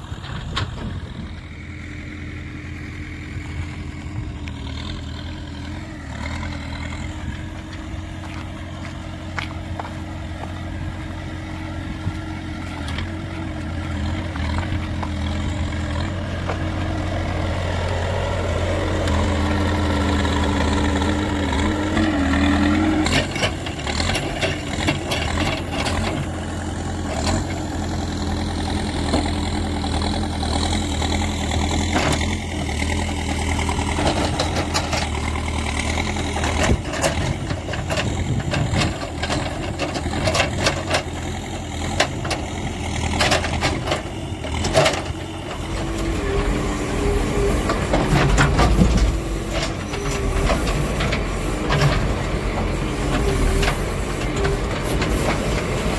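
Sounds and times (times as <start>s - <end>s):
backhoe diesel engine running: 0.0s - 55.9s.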